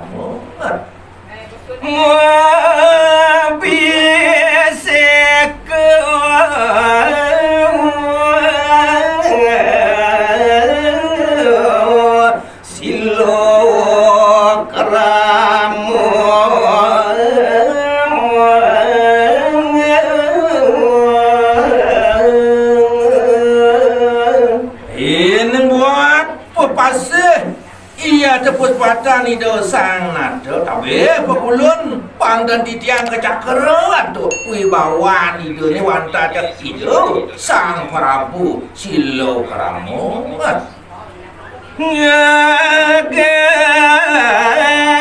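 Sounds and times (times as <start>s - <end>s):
man singing with long wavering notes: 1.8s - 40.7s, 41.8s - 45.0s.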